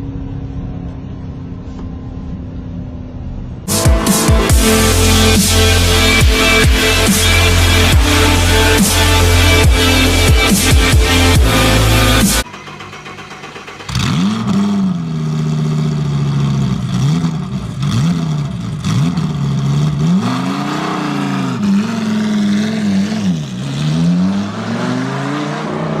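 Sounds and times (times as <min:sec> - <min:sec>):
car engine revving: 0:03.5 - 0:26.0.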